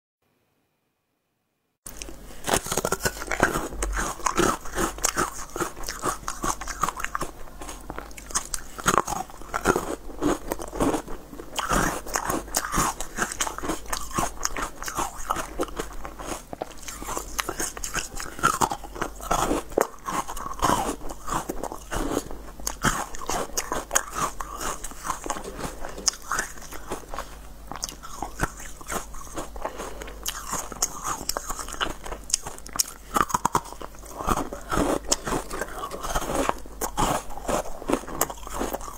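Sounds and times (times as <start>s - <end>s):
chewing: 1.9s - 38.9s
crunching frozen treats: 1.9s - 38.9s.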